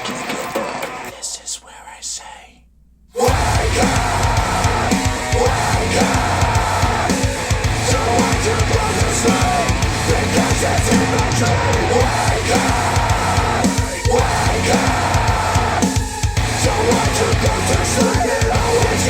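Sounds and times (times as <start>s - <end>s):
music with drum beat over speakers: 3.3s - 19.0s.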